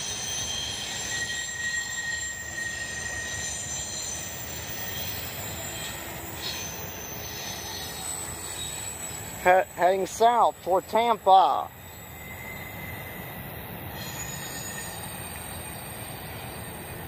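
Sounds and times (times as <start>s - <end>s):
high-pitched wheel squeal: 0.0s - 10.4s, 11.0s - 17.0s
train wheels rumbling on rail: 0.0s - 17.0s.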